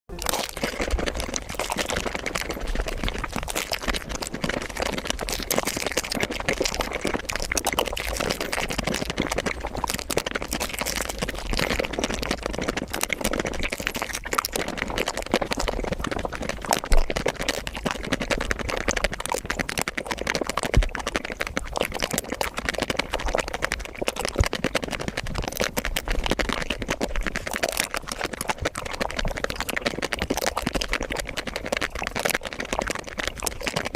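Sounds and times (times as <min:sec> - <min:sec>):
wet mouth clicks and smacks: 0:00.1 - 0:33.9.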